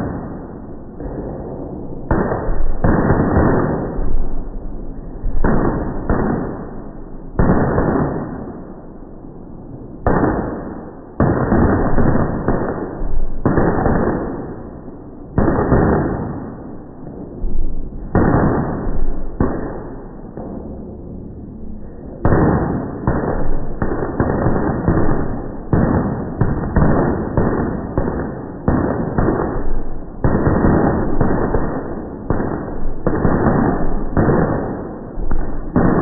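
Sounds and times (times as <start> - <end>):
slow-motion firecracker booms: 0.0 - 8.9, 10.0 - 20.8, 21.7 - 36.0.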